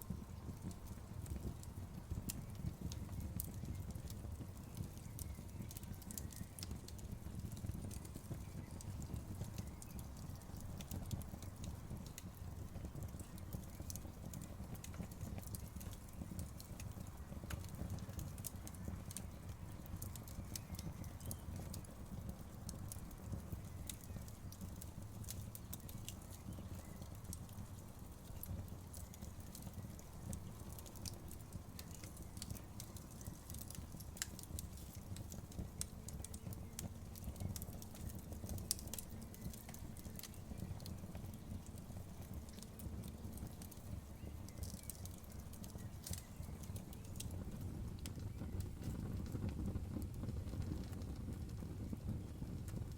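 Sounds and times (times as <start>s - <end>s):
campfire crackling and popping: 0.0s - 52.9s
low rumble of flame: 0.0s - 52.9s.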